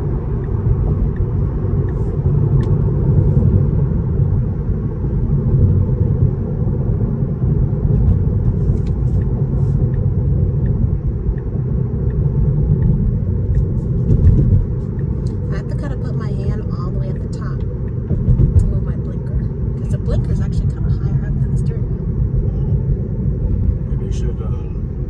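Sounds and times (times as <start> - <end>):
road and tyre rumble: 0.0 - 25.0.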